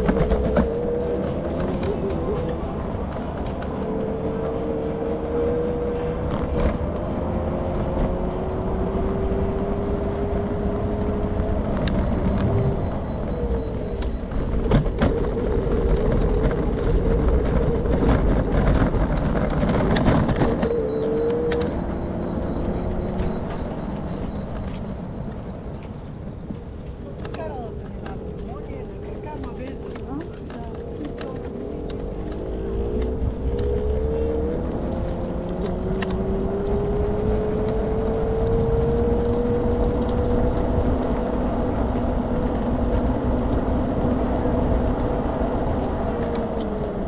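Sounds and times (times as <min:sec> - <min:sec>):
vehicles passing with low rumble: 0:00.0 - 0:47.0.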